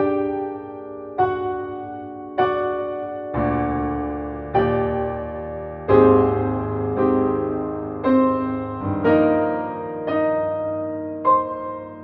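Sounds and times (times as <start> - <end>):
slow soft piano music: 0.0 - 12.0.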